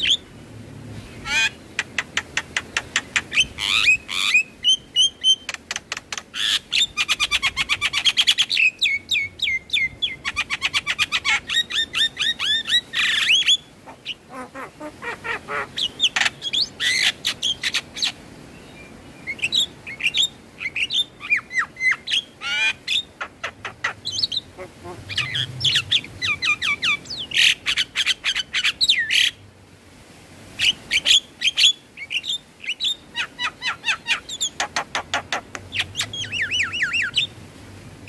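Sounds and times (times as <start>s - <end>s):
bird chattering and squawking: 1.2s - 18.2s, 19.3s - 29.3s, 30.6s - 37.3s.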